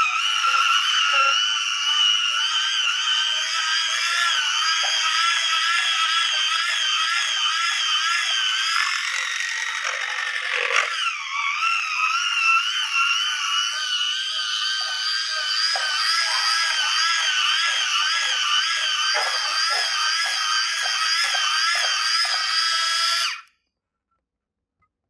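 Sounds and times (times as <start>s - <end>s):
electric hand mixer whine: 0.0s - 23.5s.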